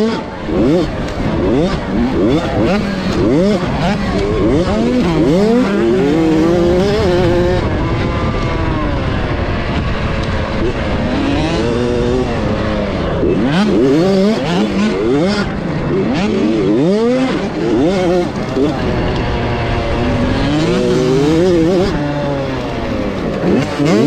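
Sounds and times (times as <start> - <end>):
two-stroke motorbike engine revving: 0.0 - 24.0.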